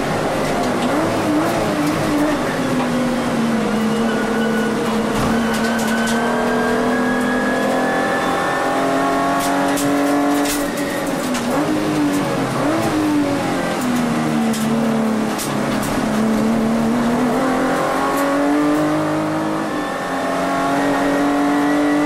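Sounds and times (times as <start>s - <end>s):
race car engine revving: 0.2s - 22.0s.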